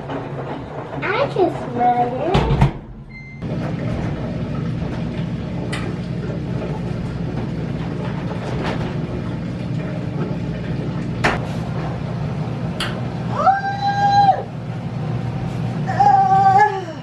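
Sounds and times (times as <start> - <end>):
clothes dryer humming and rumbling: 0.0 - 17.0.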